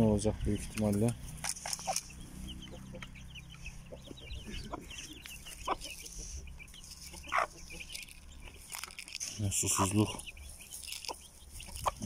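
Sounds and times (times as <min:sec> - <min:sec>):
chicks peeping: 0:00.0 - 0:12.0
hen clucking: 0:00.2 - 0:12.0.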